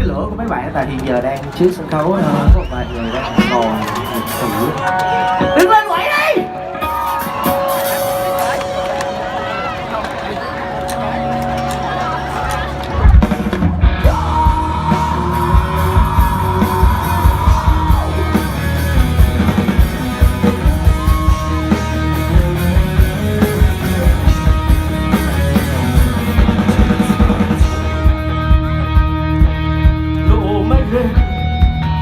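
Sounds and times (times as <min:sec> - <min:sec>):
electric guitar lines: 0:02.3 - 0:32.0
drum kit beat: 0:02.4 - 0:05.8, 0:06.8 - 0:09.4, 0:12.3 - 0:32.0.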